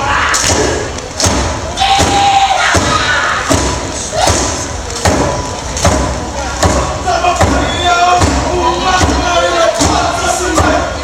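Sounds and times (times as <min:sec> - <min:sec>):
audience noise: 0:00.0 - 0:11.0
sharp percussive thumps: 0:00.4 - 0:10.0.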